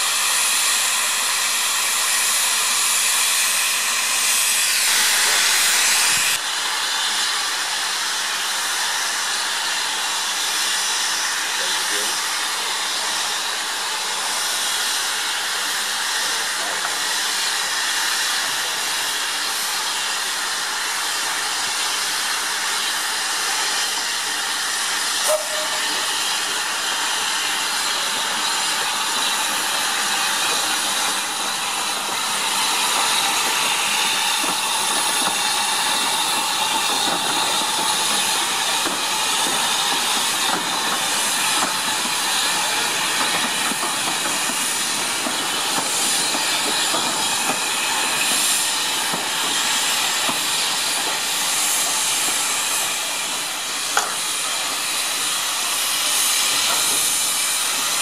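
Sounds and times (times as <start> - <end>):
steam hissing: 0.0 - 58.0
steam locomotive moving slowly: 0.0 - 58.0.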